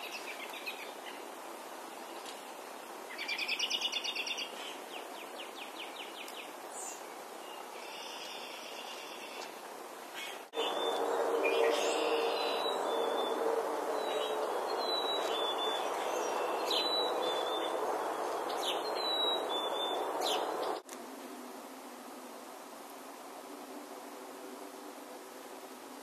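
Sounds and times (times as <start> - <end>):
birds chirping: 0.0 - 20.8.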